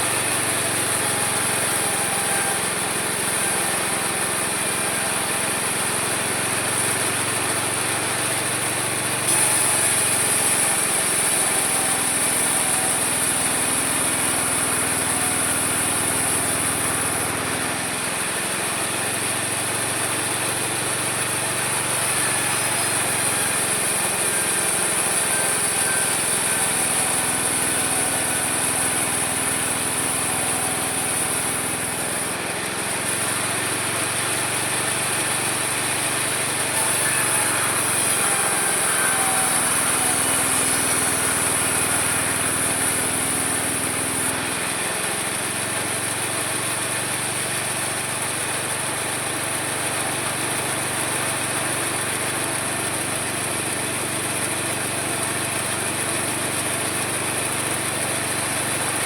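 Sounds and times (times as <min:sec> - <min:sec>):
sawmill sawing wood: 0:00.0 - 0:59.0.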